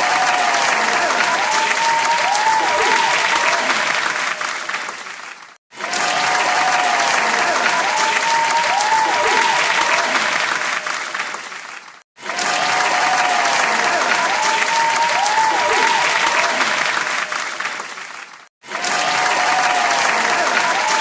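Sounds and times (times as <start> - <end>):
calls over clapping: 0.0 - 21.0
crowd applauding: 0.0 - 21.0.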